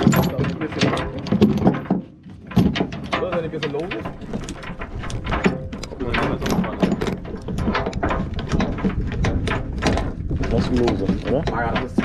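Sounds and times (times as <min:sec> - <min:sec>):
steel chain clanking on wood: 0:00.0 - 0:12.0.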